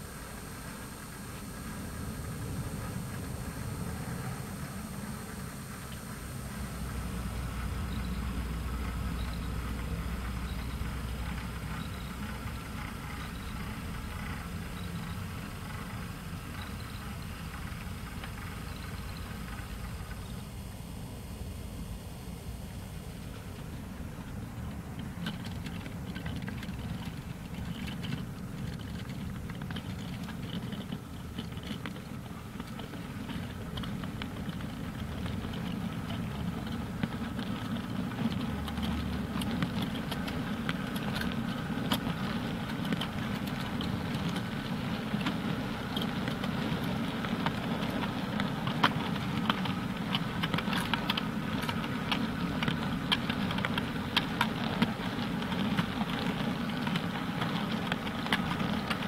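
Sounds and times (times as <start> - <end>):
wheels clicking on track: 0.0 - 21.2, 22.4 - 59.0
model train wagons rumbling: 0.0 - 21.6, 22.3 - 59.0.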